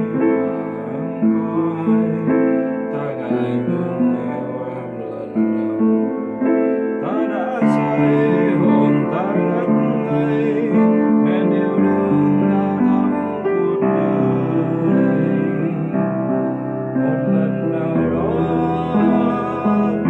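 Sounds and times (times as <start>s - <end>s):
digital piano chords: 0.0s - 20.0s
man singing: 0.0s - 20.0s.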